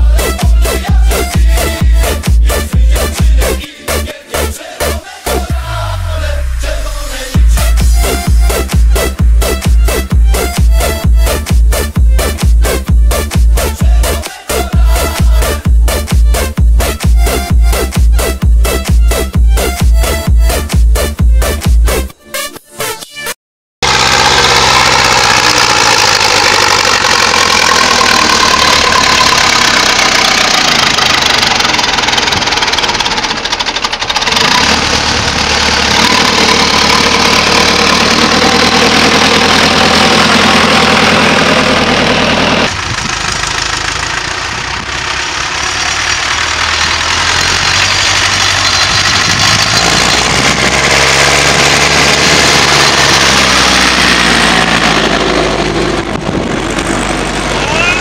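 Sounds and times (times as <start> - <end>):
tractor diesel engine under load: 0.0 - 22.1, 23.8 - 58.0.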